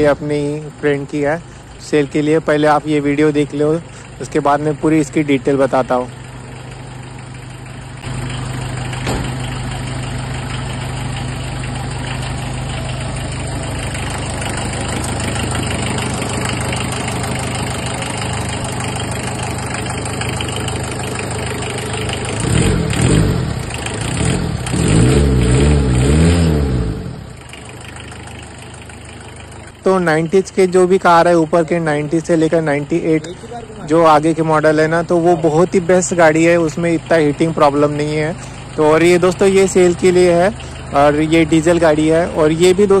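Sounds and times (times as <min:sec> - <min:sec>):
diesel engine idling and revving: 0:00.0 - 0:43.0.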